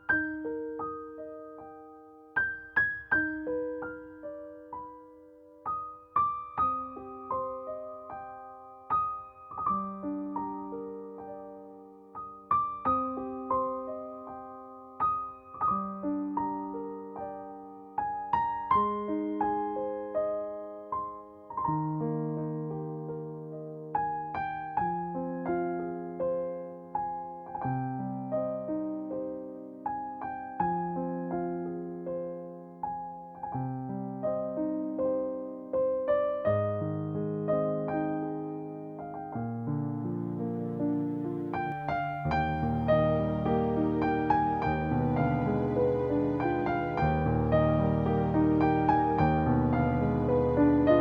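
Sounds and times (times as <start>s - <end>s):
gentle piano piece: 0.0s - 51.0s.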